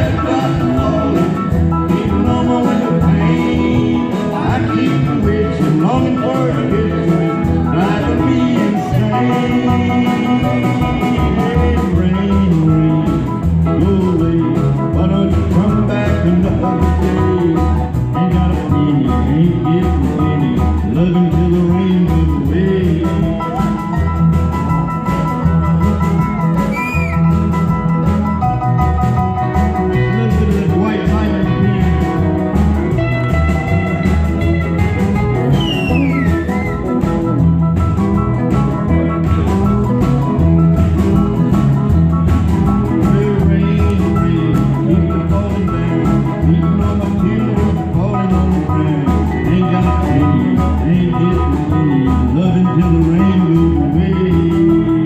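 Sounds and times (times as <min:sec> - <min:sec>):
bass guitar: 0:00.0 - 0:55.0
electric guitar lead with bending notes: 0:00.0 - 0:55.0
steady drum beat: 0:00.0 - 0:55.0.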